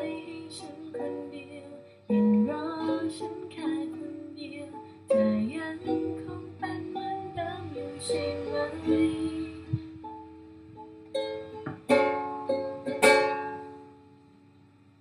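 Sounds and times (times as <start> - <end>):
ukulele plucked and strummed: 0.0 - 14.9.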